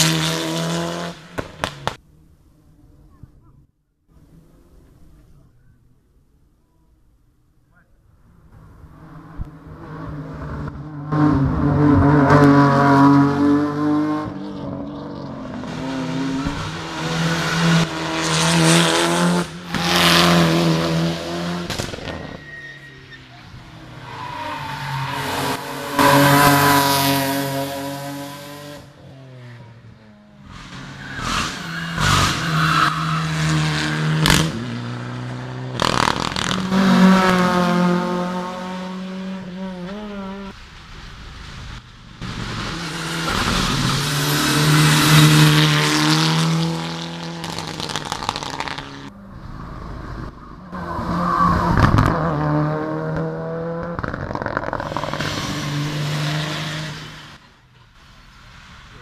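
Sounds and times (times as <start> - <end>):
racing car engines revving: 0.0 - 2.0, 8.2 - 59.0.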